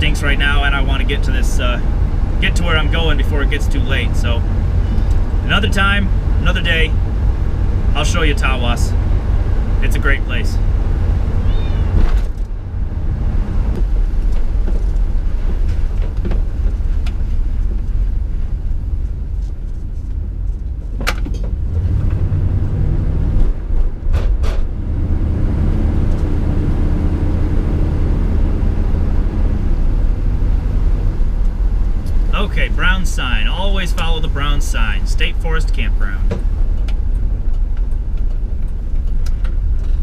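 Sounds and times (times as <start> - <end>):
engine hum: 0.0 - 40.0
road rumble: 0.0 - 40.0.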